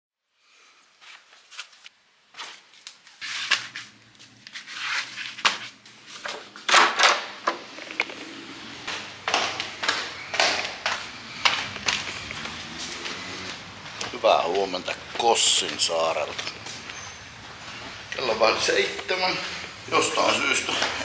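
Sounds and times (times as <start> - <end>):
sandal footsteps on tile and stone: 1.0 - 6.7, 7.4 - 21.0.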